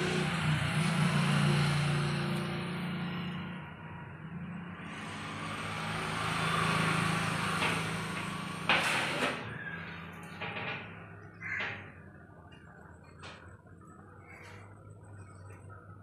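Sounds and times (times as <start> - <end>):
engine-like drone: 0.0 - 16.0.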